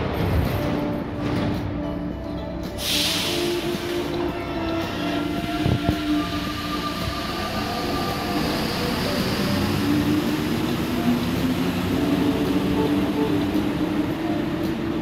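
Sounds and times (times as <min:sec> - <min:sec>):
train rumble: 0:00.0 - 0:15.0
train whine: 0:00.0 - 0:15.0.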